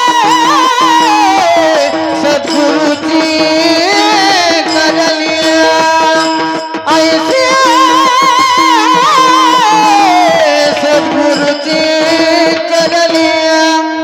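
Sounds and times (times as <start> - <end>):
light percussion: 0.0 - 14.0
man singing devotional song: 0.0 - 14.0.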